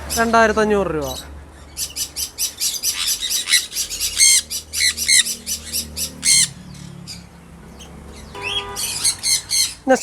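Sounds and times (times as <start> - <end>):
small parrots chirping and squawking: 1.1 - 10.0.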